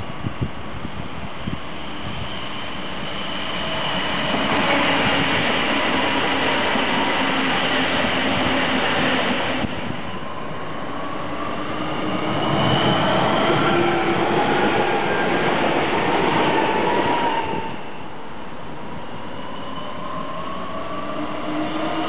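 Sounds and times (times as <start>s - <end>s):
train wheels rumbling on rail: 0.0s - 22.0s
train whine: 0.0s - 22.0s.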